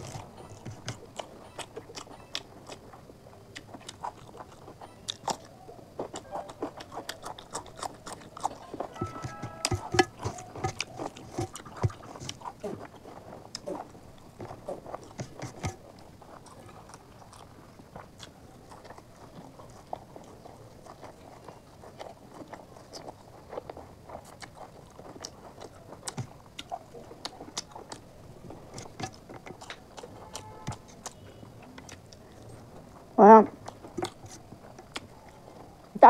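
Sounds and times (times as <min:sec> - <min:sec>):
person chewing food: 0:00.0 - 0:36.0.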